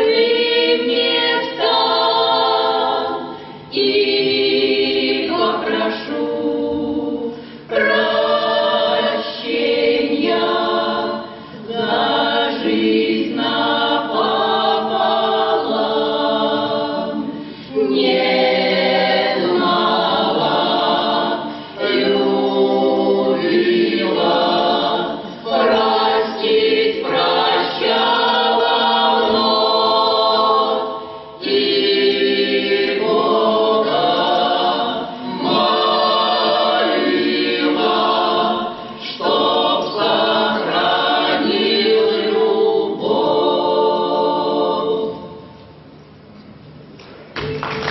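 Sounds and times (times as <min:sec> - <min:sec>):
folk choir singing: 0:00.0 - 0:45.6.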